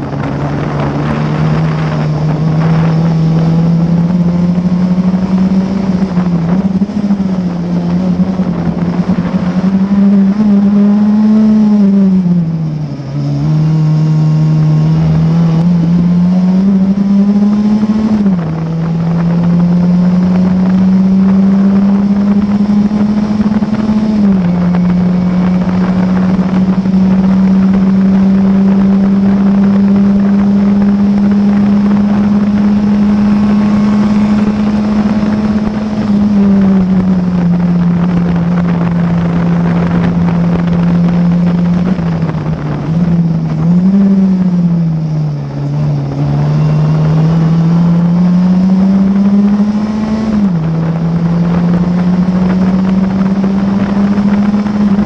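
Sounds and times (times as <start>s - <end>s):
racing car engine: 0.0s - 55.0s.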